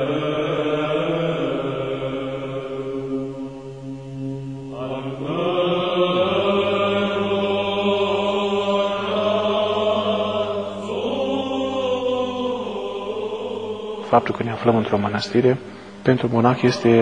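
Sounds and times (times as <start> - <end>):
low held drone: 0.0 - 17.0
voices singing a slow chant: 0.0 - 17.0.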